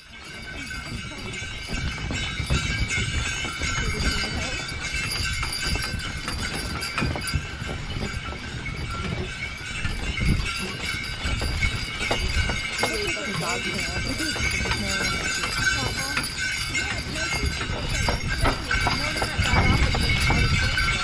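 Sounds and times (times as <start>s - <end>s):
horse hooves clopping in snow: 0.0s - 21.0s
sleigh bells jingling: 0.0s - 21.0s.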